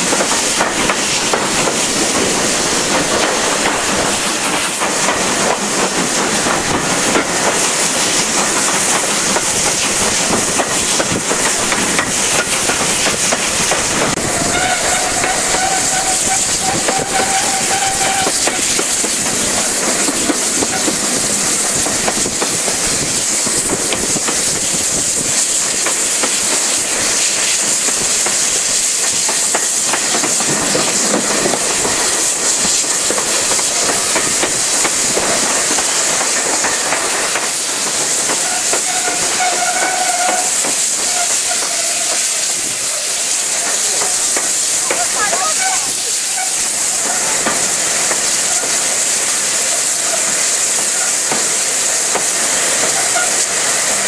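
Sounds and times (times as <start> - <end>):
rushing air: 0.0 - 44.9
steam hissing: 0.0 - 54.0
wheel and rail noise: 0.0 - 54.0.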